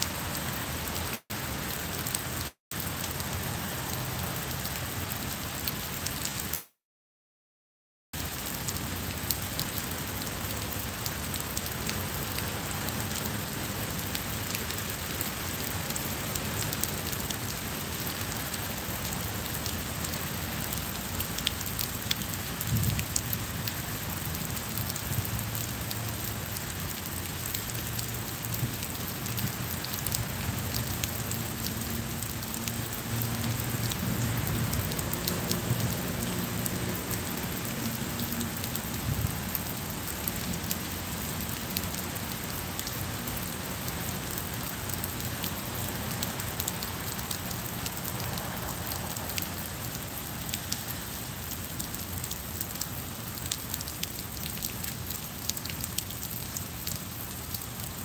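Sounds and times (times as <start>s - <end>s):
rain on stone paving: 0.0s - 6.8s, 8.2s - 58.0s.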